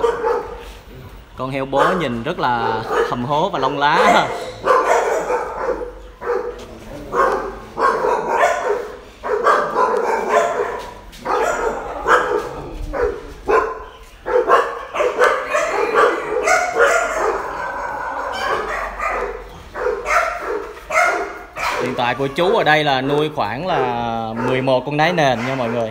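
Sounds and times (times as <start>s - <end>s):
dog barking: 0.0s - 0.8s, 1.7s - 22.7s, 23.5s - 25.9s.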